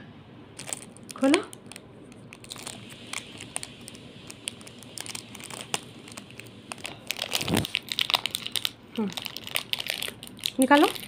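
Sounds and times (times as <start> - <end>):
plastic wrapper crinkling: 0.6 - 11.0.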